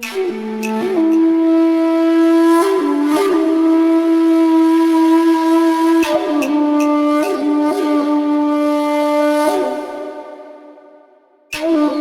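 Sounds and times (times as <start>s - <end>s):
solo wind instrument: 0.0s - 12.0s.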